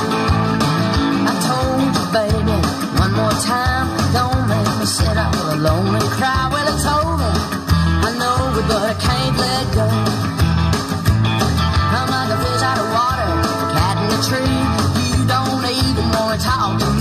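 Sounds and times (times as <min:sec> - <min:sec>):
rock and roll song: 0:00.0 - 0:17.0.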